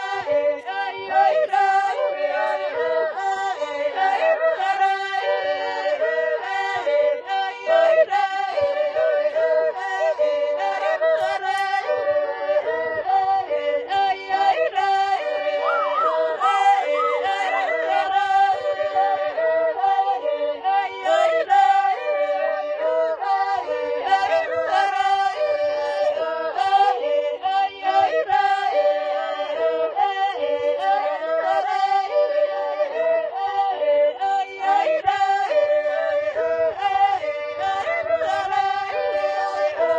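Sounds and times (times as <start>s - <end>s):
group singing in harmony: 0.0s - 39.9s.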